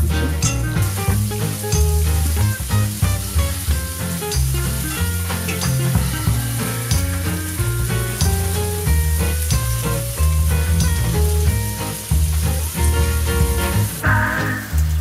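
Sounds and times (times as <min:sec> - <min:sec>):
background music with bass: 0:00.0 - 0:15.0
shrimp sizzling in hot oil: 0:00.0 - 0:15.0.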